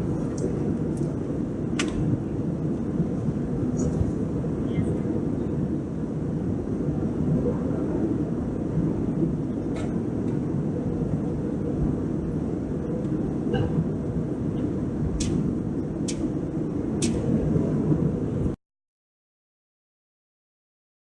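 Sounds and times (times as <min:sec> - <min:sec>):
airliner engines rumbling in cabin: 0:00.0 - 0:18.6.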